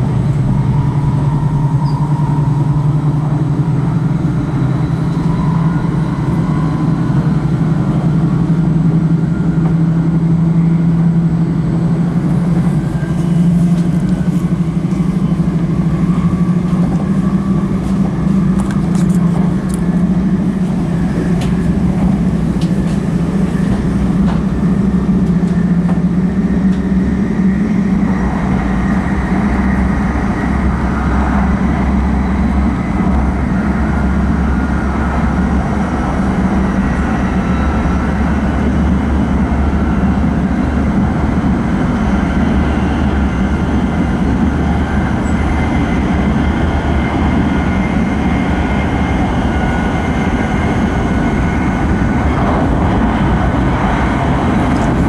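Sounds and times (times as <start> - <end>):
train cabin hum and rumble: 0.0 - 55.0.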